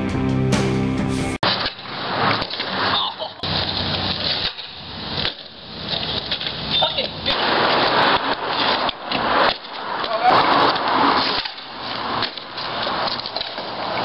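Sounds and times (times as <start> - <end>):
longboard wheels rolling on pavement: 1.4 - 14.0.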